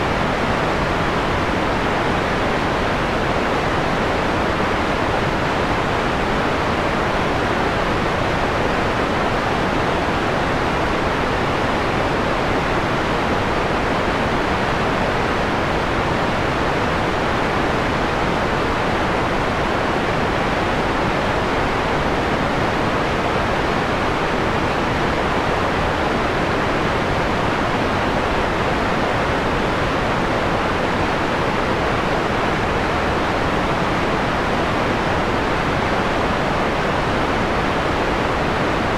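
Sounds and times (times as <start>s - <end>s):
filtered white noise hiss: 0.0s - 38.9s.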